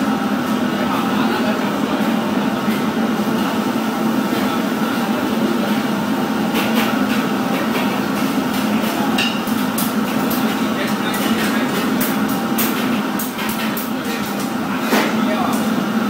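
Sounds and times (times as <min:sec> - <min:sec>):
kitchen machinery humming: 0:00.0 - 0:16.0.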